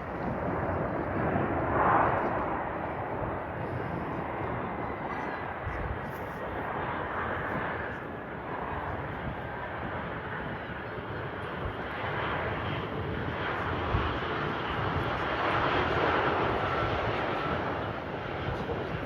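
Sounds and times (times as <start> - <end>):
airliner engines rumbling: 0.0 - 19.0
wind buffeting microphone: 0.0 - 19.0.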